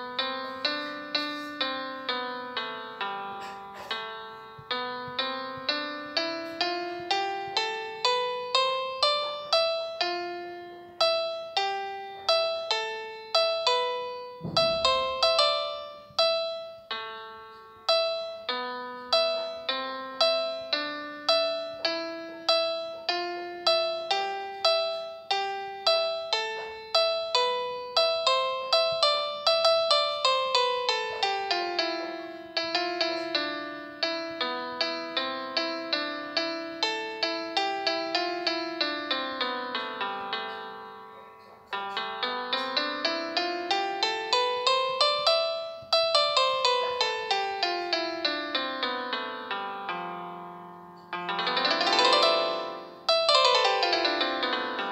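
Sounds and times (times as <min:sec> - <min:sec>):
gentle piano melody: 0:00.0 - 0:54.9.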